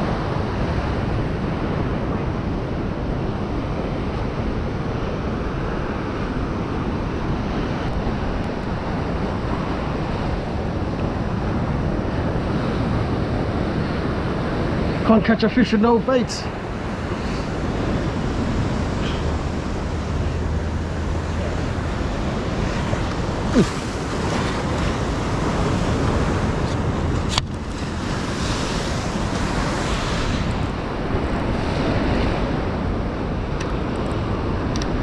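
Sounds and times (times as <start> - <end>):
sea surf washing: 0.0 - 35.0
wind buffeting microphone: 0.0 - 35.0.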